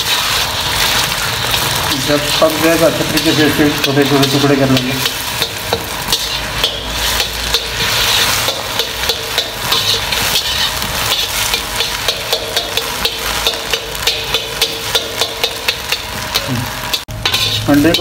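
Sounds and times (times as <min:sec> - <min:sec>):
metal spatula scraping a wok: 0:00.0 - 0:18.0
oil sizzling: 0:00.0 - 0:18.0.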